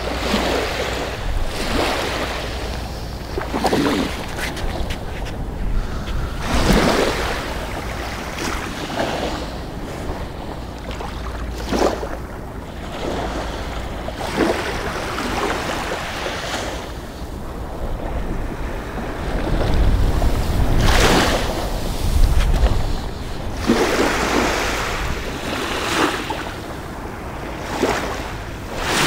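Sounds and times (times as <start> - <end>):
small waves lapping on shore: 0.0 - 29.0
wind buffeting microphone: 0.0 - 29.0.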